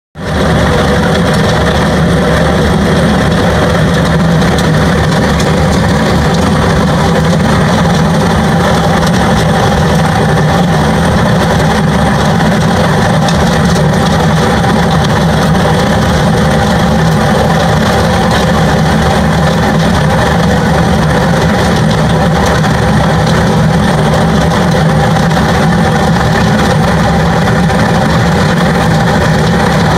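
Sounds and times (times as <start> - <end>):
excavator engine running: 0.2 - 29.9.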